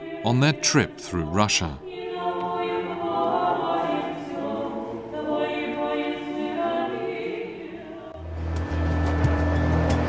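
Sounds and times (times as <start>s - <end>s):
choir singing a cappella: 0.0s - 8.5s.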